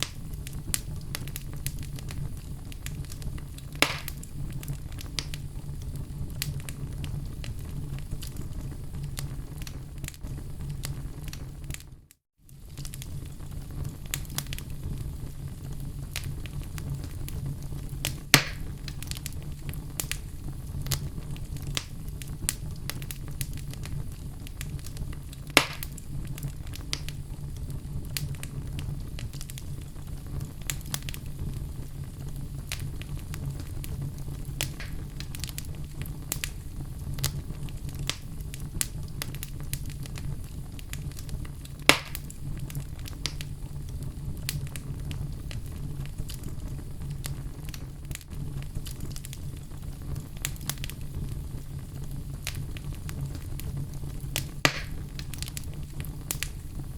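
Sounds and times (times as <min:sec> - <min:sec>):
fire crackles and pops: 0:00.0 - 0:56.9
wood fire rumbling: 0:00.0 - 0:56.9.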